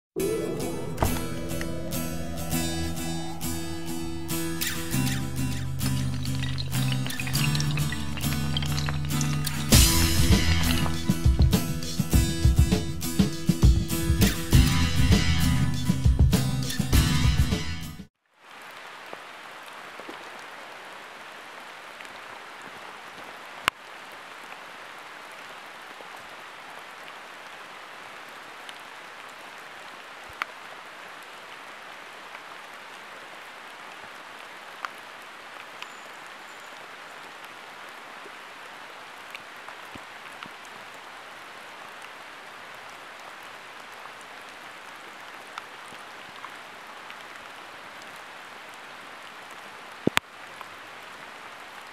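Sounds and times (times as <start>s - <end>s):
rain falling on foliage: 0.9s - 13.7s, 18.2s - 51.9s.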